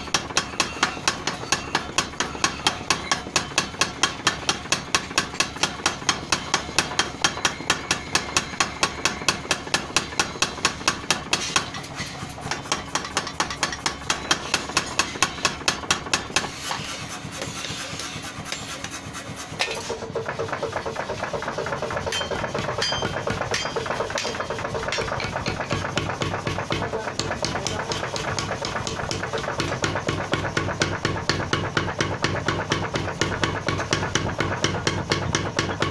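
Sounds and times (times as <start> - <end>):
power hammer pounding steel: 0.0 - 35.9.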